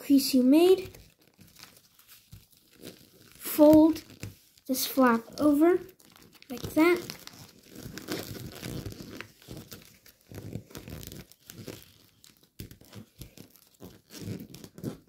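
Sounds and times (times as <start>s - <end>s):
foil paper crinkling: 0.6s - 15.0s.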